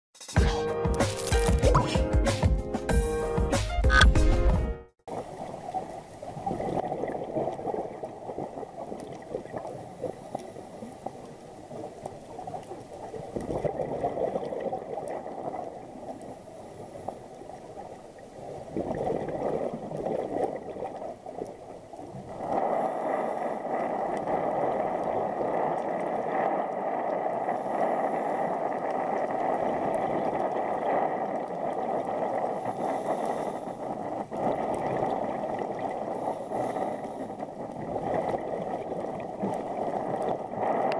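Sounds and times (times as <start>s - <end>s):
underwater gurgling and bubbling: 5.1s - 40.9s.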